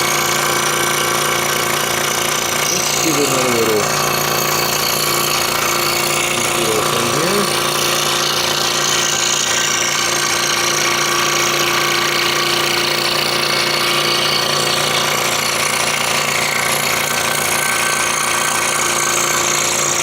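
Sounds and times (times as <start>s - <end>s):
scroll saw cutting wood: 0.0s - 20.0s.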